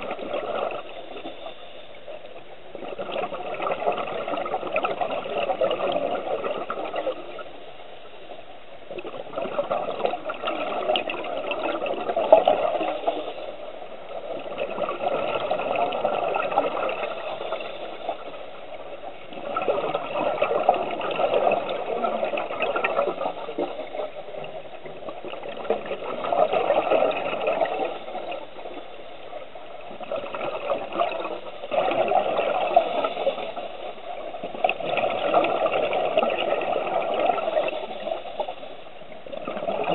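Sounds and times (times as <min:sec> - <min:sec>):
bubbles gurgling: 0:00.0 - 0:07.5, 0:08.9 - 0:39.9.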